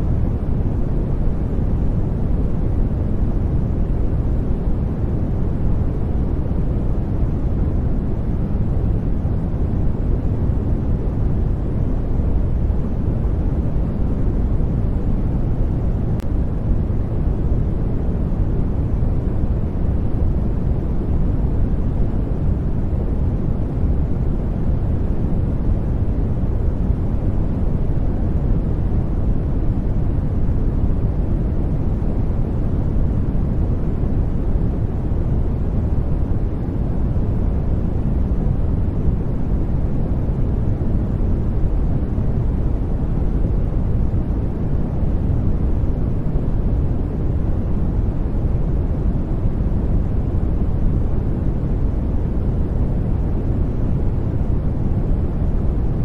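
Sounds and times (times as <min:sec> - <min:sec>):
deep brown noise rush: 0:00.0 - 0:56.0.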